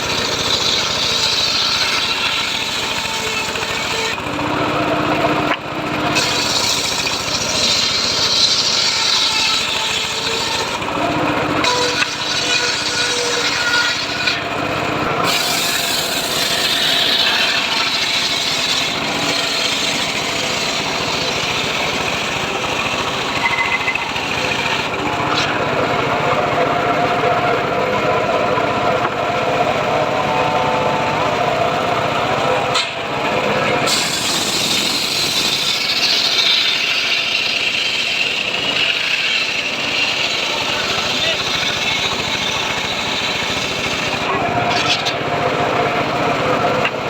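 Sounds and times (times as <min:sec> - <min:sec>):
circular saw cutting wood: 0:00.0 - 0:47.0.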